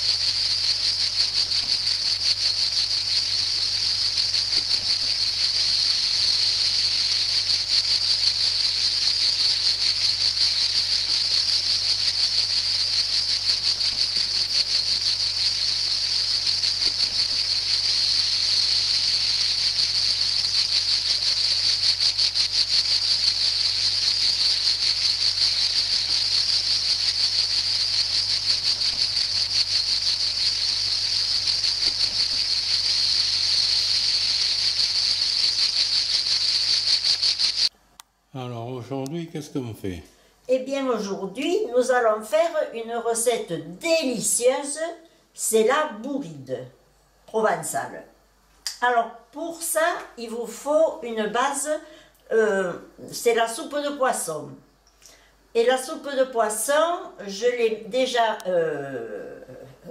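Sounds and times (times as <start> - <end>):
cicadas buzzing: 0.0 - 37.8, 39.5 - 46.5, 47.4 - 59.9.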